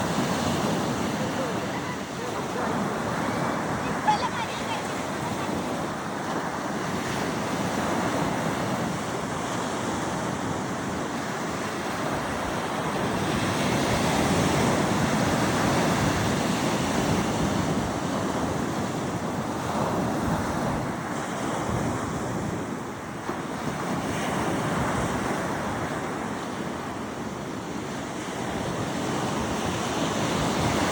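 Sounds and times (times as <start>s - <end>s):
ocean waves breaking: 0.0s - 30.9s
wind buffeting microphone: 0.0s - 30.9s.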